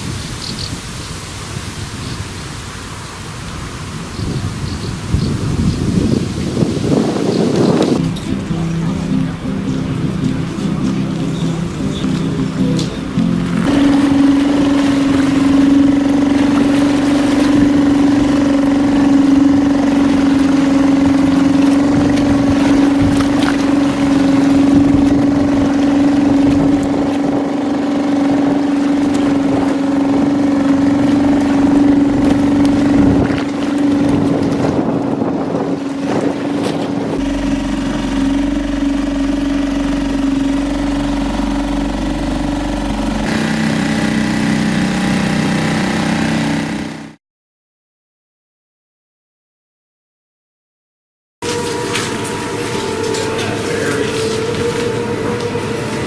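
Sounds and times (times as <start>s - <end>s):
boat motor droning: 0.0s - 47.2s, 51.4s - 56.0s.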